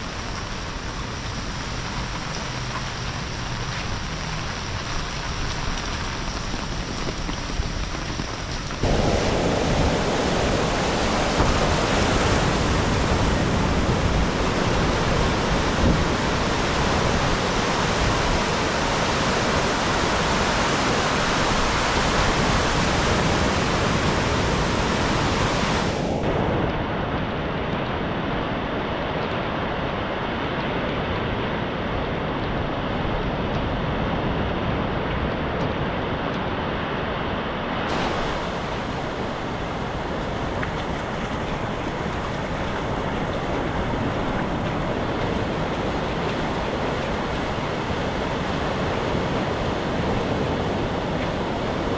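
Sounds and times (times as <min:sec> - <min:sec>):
rain: 0:00.0 - 0:51.9
sea surf: 0:00.0 - 0:51.9.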